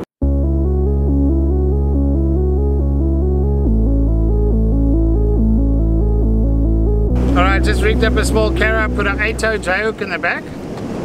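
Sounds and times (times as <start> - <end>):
held bass note: 0.2 - 10.0
synthesizer arpeggio: 0.2 - 10.2.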